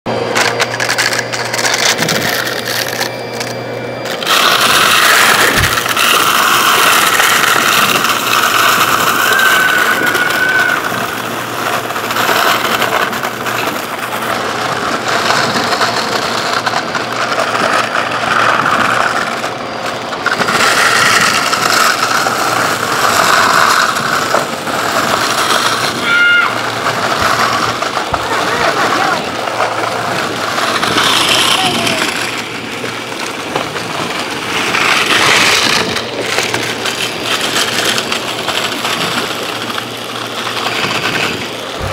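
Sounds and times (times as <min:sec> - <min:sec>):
vacuum cleaner running: 0:00.1 - 0:41.9
debris crunching and rattling: 0:00.3 - 0:41.9.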